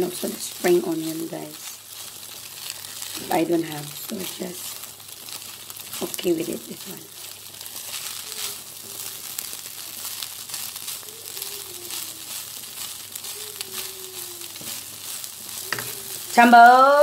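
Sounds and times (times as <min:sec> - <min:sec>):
rice sizzling in a pan: 0:00.0 - 0:17.0
spatula scraping a pan: 0:01.6 - 0:16.4.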